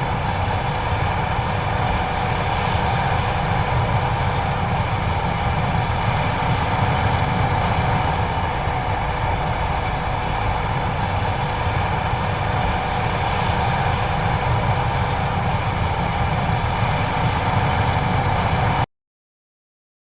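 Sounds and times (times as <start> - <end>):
combine harvester engine rumble: 0.0 - 18.8
threshing machinery whine: 0.0 - 18.8.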